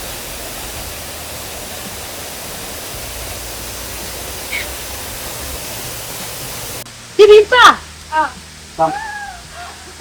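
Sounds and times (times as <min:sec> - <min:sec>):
waterfall rushing into pool: 0:00.0 - 0:10.0.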